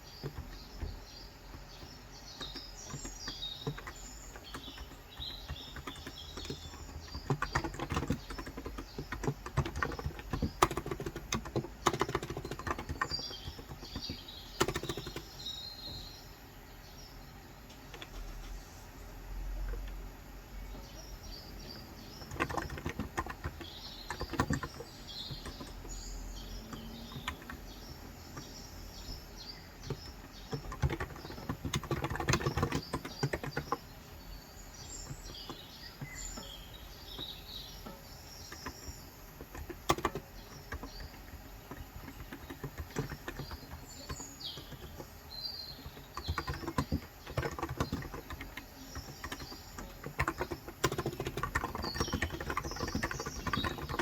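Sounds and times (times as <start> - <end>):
typing on keyboard: 0.0 - 16.2, 17.7 - 18.4, 21.6 - 54.0
small birds chirping: 0.0 - 54.0.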